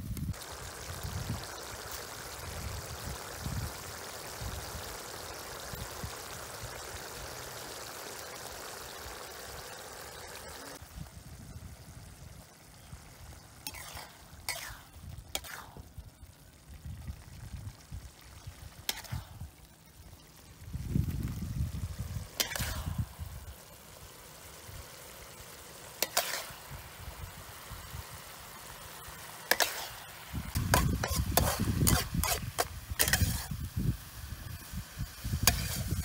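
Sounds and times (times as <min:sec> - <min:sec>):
sauce bubbling and sizzling: 0:00.0 - 0:36.0.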